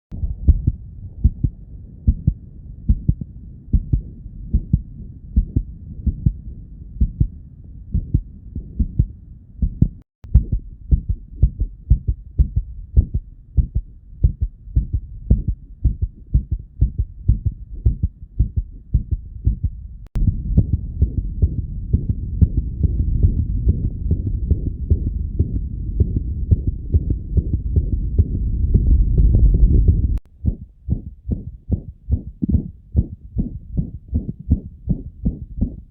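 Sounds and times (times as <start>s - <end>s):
heartbeats through stethoscope: 0.1s - 35.9s
whooshing heart murmur: 0.1s - 35.9s.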